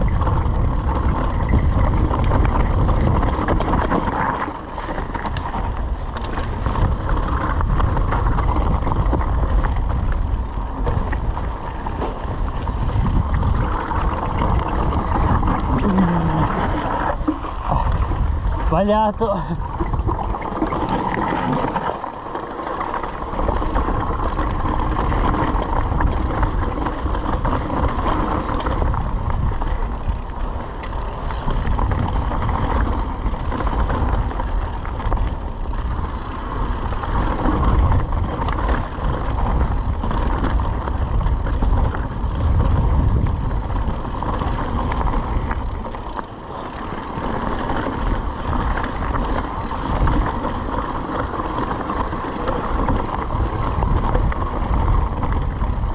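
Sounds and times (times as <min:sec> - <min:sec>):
bike tyres over gravel: 0:00.0 - 0:55.9
wind rumbling on microphone: 0:00.0 - 0:55.9.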